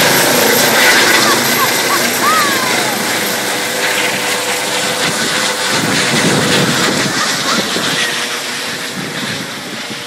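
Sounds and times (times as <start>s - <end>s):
helicopter rotor and turbine: 0.0s - 10.0s.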